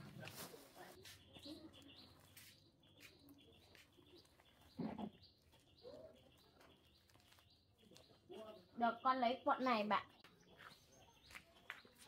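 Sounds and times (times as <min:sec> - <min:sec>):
faint bird chirps: 0:01.0 - 0:12.0.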